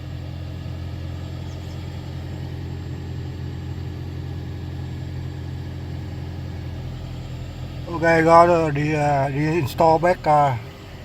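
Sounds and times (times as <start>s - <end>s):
blower motor humming: 0.0s - 11.0s.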